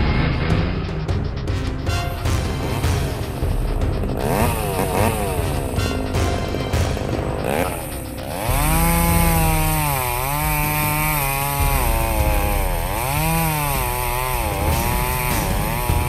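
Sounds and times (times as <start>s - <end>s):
chainsaw engine revving: 2.2s - 16.0s.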